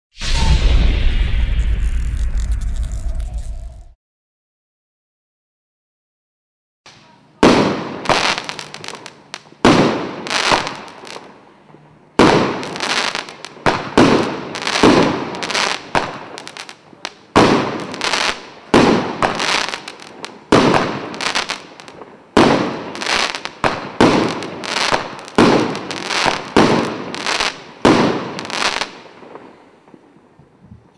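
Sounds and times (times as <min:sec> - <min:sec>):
firework bangs: 0:00.2 - 0:04.0, 0:07.4 - 0:11.3, 0:12.2 - 0:29.6.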